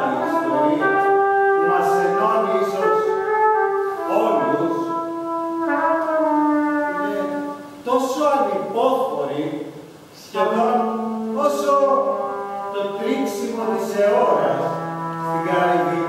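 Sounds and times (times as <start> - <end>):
trumpet playing long notes: 0.0 - 8.7, 10.5 - 16.0.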